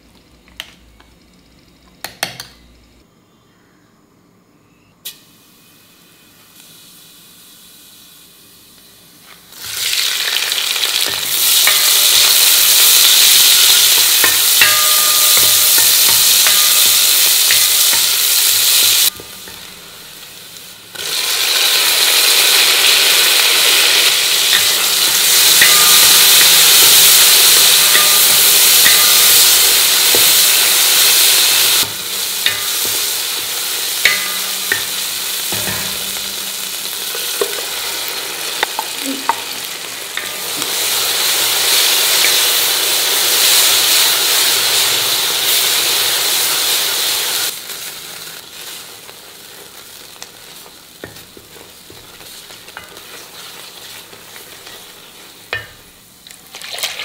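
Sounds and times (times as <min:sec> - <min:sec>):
onions sizzling in oil: 0:05.0 - 0:57.0.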